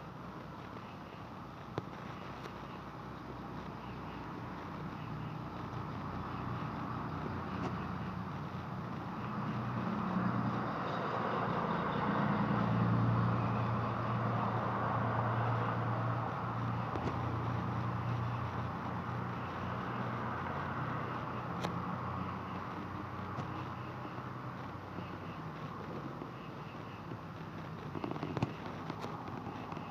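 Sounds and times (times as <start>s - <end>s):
engine drone: 0.0s - 29.9s.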